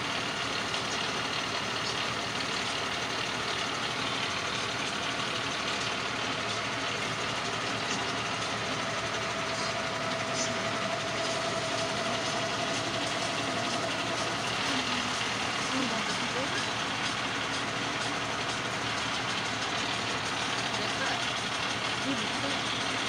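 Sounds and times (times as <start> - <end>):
diesel engine running: 0.0 - 23.0
thin steady whine: 0.0 - 23.0.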